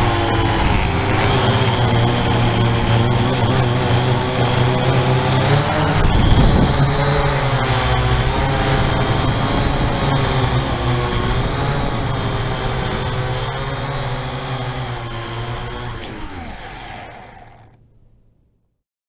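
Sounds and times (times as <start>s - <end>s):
drone propellers whirring: 0.0s - 17.8s.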